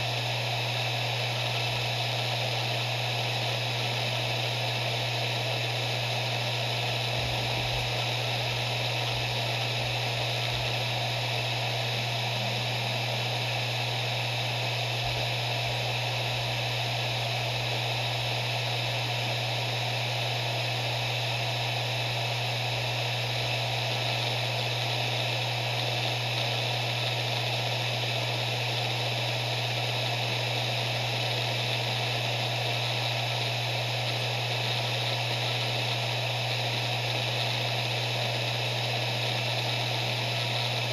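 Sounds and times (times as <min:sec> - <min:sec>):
hard drive spinning: 0:00.0 - 0:40.9.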